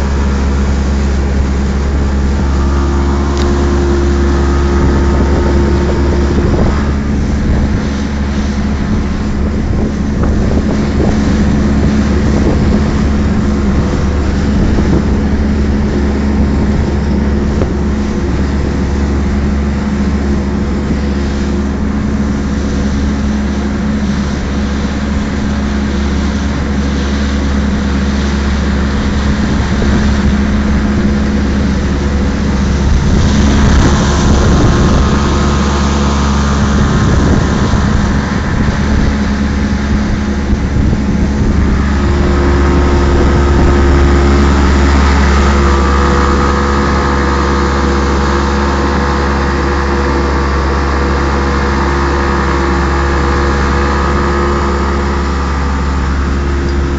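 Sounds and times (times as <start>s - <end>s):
outboard engine running: 0.0s - 56.9s
rushing water: 0.0s - 56.9s
wind noise: 0.0s - 56.9s.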